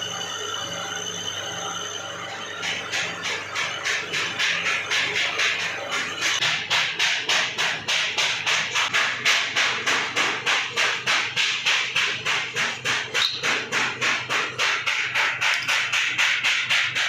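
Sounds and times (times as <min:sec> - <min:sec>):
rapid hammer blows: 0:02.7 - 0:17.0.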